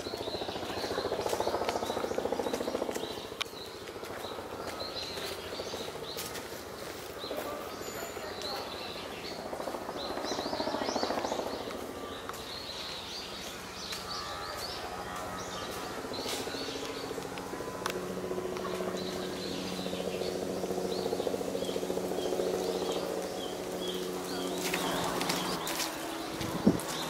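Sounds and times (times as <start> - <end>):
birds chirping: 0.0 - 27.0
outdoor background rush: 0.0 - 27.0.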